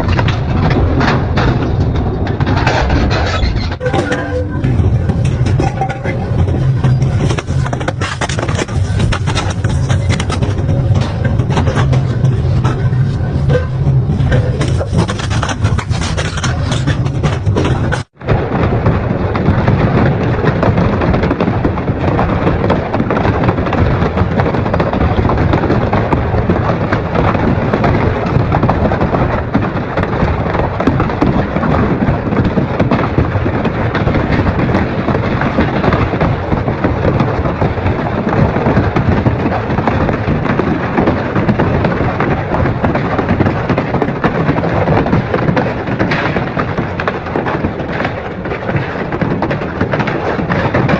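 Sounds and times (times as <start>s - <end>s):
industrial shredder crushing material: 3.8s - 50.9s.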